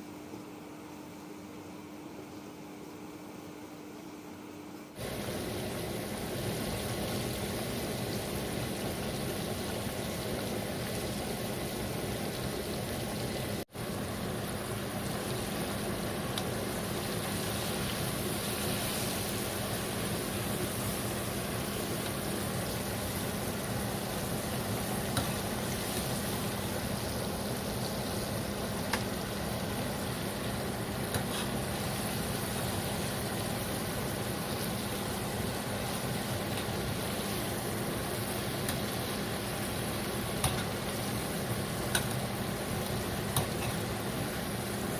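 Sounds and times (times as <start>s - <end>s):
chicken deep-frying in oil: 5.0s - 44.9s.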